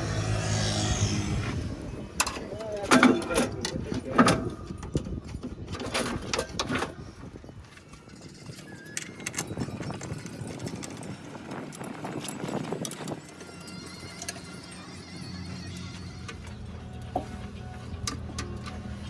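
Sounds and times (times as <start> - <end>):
hand tools clinking on metal: 2.2 - 19.0.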